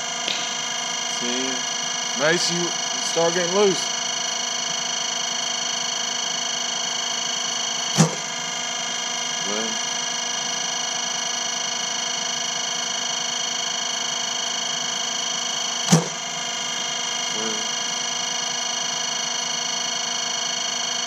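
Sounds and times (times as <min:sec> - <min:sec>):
steady high-toned hum: 0:00.0 - 0:21.0.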